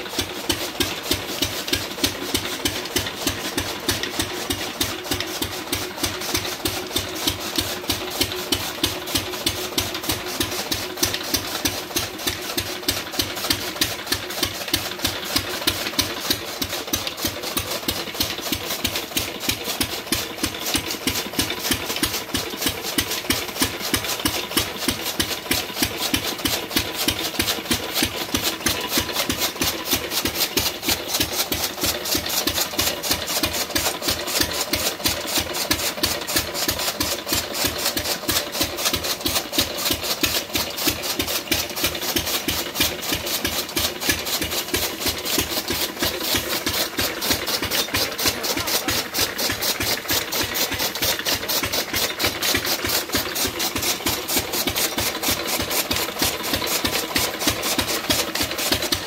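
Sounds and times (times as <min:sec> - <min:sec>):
chaff cutter chopping fodder: 0:00.0 - 0:59.0
diesel engine knocking: 0:00.0 - 0:59.0.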